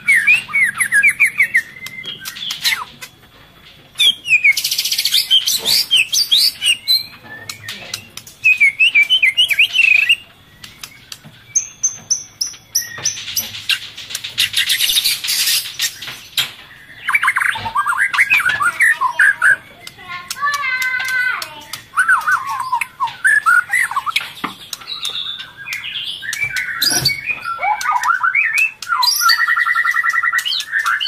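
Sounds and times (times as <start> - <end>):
chicks harsh hissing calls: 0.0 - 3.2, 4.0 - 11.6, 12.9 - 31.0
birds chattering: 0.0 - 31.0.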